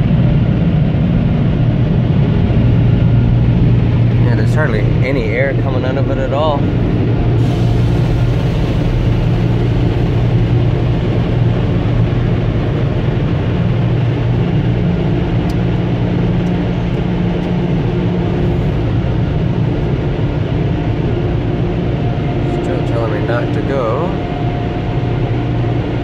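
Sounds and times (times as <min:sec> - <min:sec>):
dryer blowers humming: 0:00.0 - 0:26.0.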